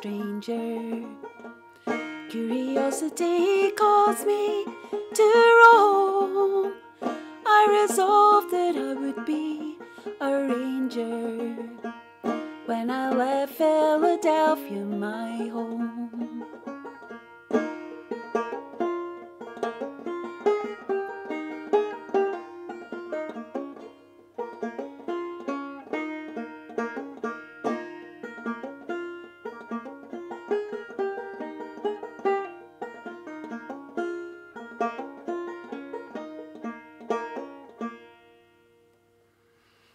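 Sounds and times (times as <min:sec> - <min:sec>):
solo banjo folk tune: 0:00.0 - 0:39.2.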